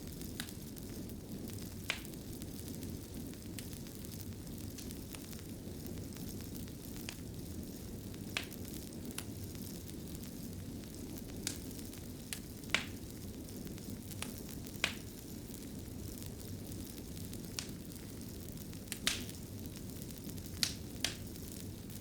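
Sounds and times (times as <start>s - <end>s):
fire crackling in a fireplace: 0.0s - 22.0s
sharp pops of fire: 0.0s - 22.0s.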